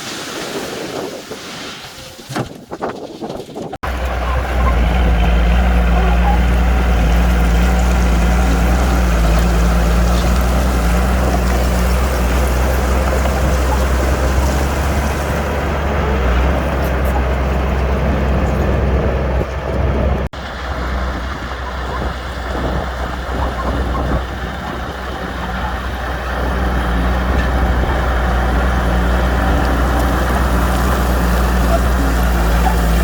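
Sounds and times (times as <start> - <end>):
diesel machinery rumbling: 3.6 - 33.0.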